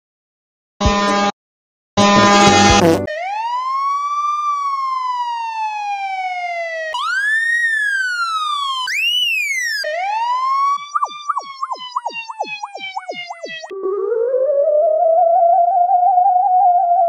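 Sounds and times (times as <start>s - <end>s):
police siren wailing: 2.3s - 17.0s.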